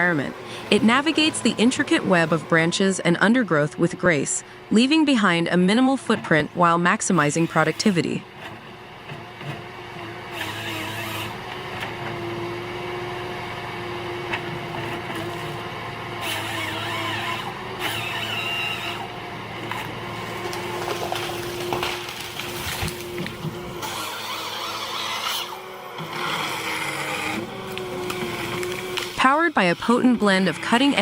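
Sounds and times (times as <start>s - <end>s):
forestry harvester engine drone: 0.0s - 31.0s.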